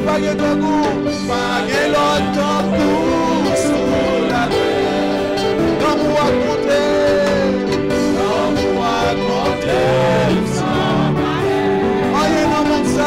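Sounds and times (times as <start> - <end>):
held instrumental chords: 0.0 - 13.0
voices singing: 0.0 - 13.0.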